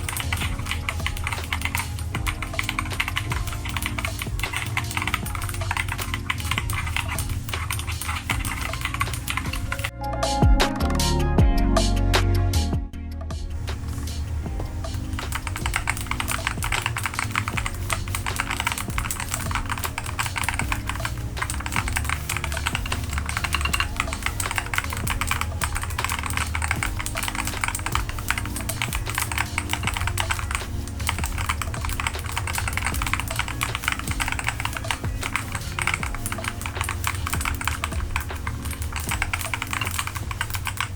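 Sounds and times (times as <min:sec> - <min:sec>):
fast keyboard typing: 0:00.0 - 0:09.9, 0:13.8 - 0:40.9
background music with bass: 0:00.0 - 0:40.9.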